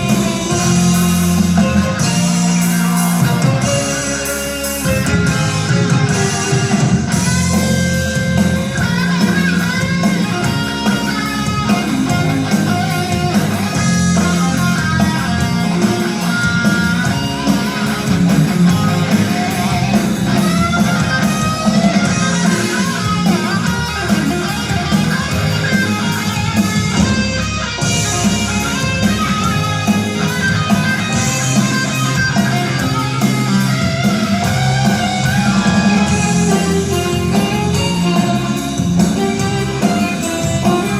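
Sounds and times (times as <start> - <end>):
music with guitar and bass: 0.0 - 40.9.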